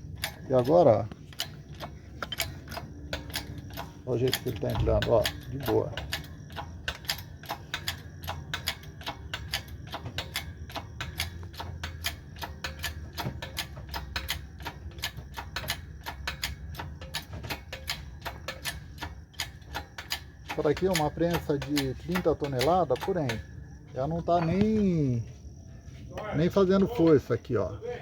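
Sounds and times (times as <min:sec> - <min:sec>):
hydraulic press clicking: 0:00.0 - 0:25.1.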